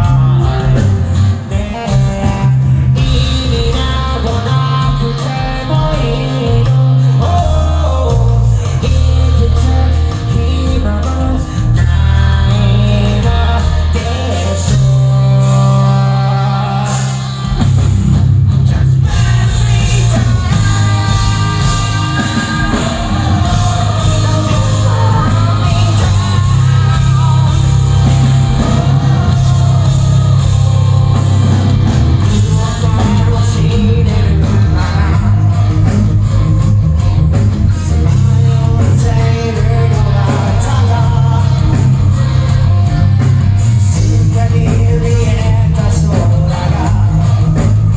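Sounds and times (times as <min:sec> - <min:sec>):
person singing: 0:00.0 - 0:17.8, 0:18.8 - 0:43.0, 0:43.6 - 0:47.9
drums: 0:00.0 - 0:47.9
heavy rock band playing: 0:00.0 - 0:47.9.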